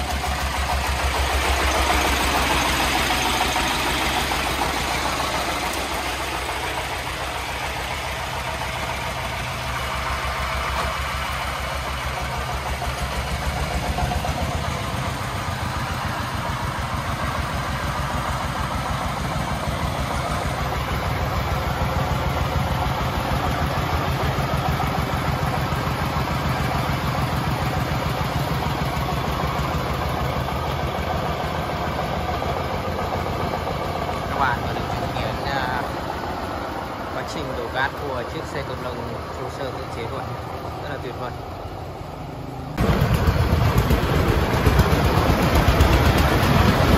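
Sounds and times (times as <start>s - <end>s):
diesel engine chugging: 0.0s - 46.9s.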